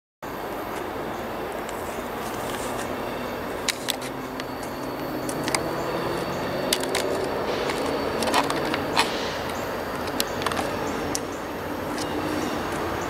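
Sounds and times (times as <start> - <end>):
distant train rumbling: 0.3 - 13.0.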